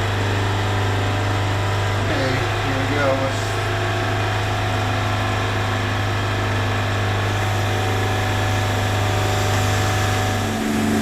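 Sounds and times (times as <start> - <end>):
machine hum with low drone: 0.0 - 11.0.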